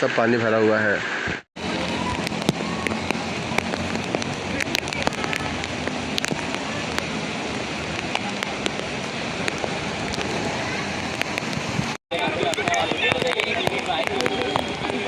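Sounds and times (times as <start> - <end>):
heavy rain falling: 1.0 - 15.0
raindrops ticking on a surface: 1.6 - 15.0.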